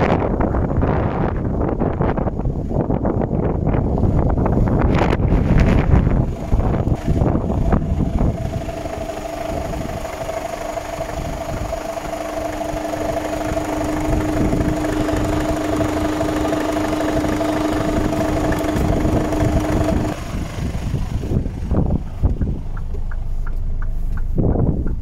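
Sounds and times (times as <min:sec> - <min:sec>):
diesel engine idling: 0:00.1 - 0:25.0.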